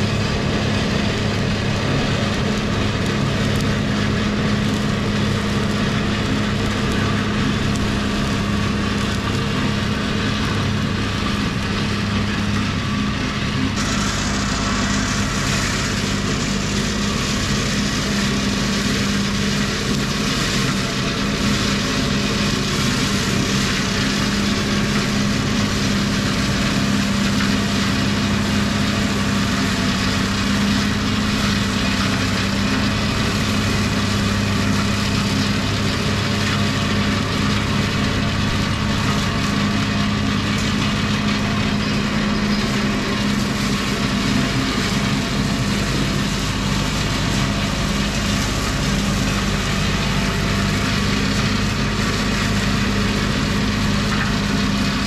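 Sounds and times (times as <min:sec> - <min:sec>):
tractor engine and mower droning: 0:00.0 - 0:55.0.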